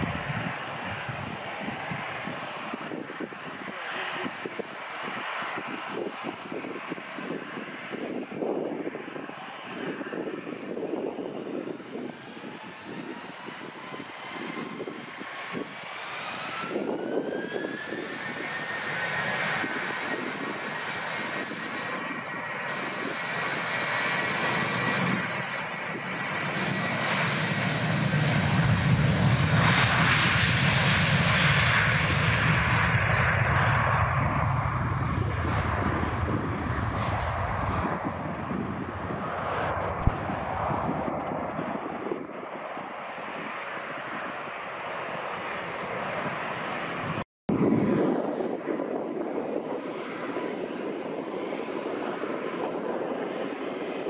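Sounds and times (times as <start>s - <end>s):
jet engine whine rising: 0.0s - 54.0s
loud low jet engine roar: 0.0s - 54.0s.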